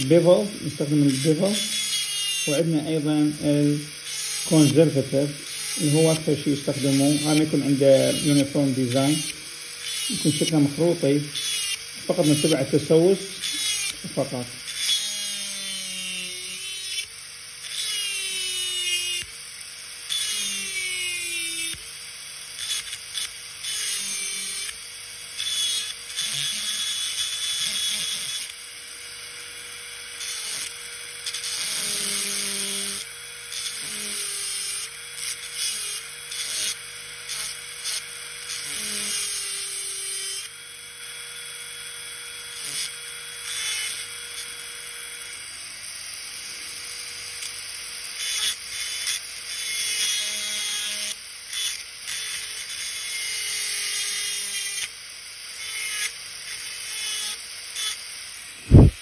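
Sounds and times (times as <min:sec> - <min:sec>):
dental drill whining and grinding: 0:00.0 - 0:59.0.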